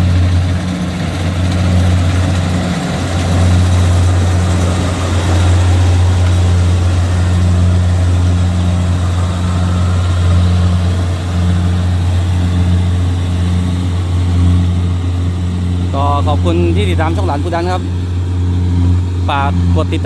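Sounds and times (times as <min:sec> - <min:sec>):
combine harvester engine humming: 0:00.0 - 0:20.0.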